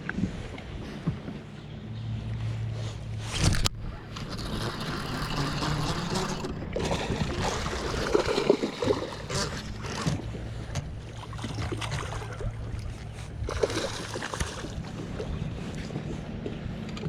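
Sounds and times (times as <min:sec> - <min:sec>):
boat motor humming: 0:00.0 - 0:17.0
water noise: 0:00.0 - 0:17.0
wind: 0:00.0 - 0:17.0.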